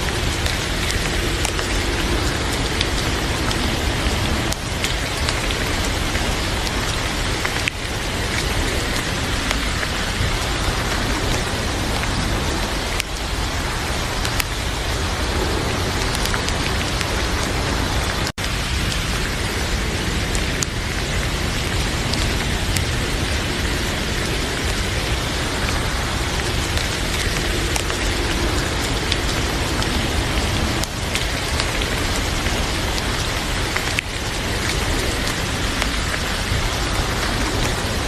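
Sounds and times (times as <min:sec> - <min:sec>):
heavy rain falling: 0:00.0 - 0:38.0
wood fire crackling: 0:00.0 - 0:38.0.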